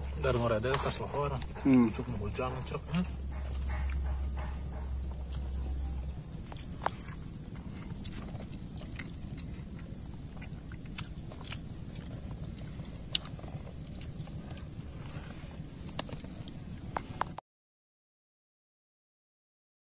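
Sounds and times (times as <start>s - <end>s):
insects droning in grass: 0.0s - 17.4s.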